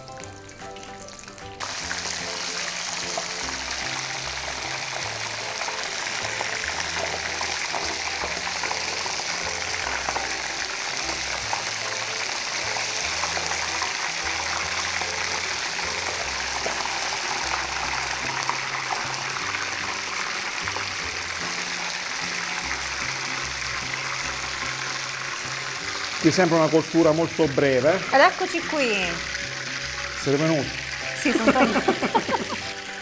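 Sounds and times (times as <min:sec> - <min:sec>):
background music bass line: 0:00.0 - 0:33.0
hot oil sizzling and bubbling: 0:00.0 - 0:33.0.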